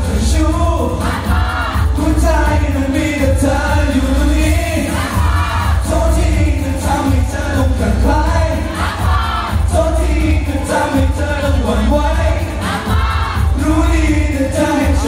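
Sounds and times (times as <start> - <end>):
pop song with vocals: 0.0 - 15.0.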